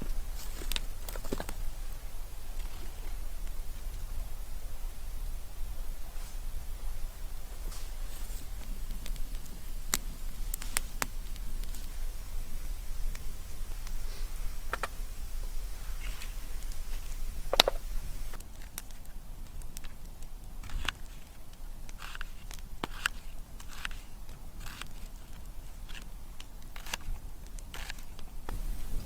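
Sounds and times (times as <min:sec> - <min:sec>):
campfire wood crackling: 0:00.0 - 0:29.0.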